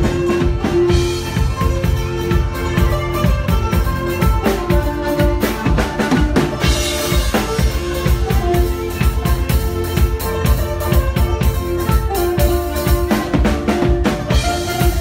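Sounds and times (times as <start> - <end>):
band playing: 0.0 - 15.0
drum kit beat: 0.0 - 15.0.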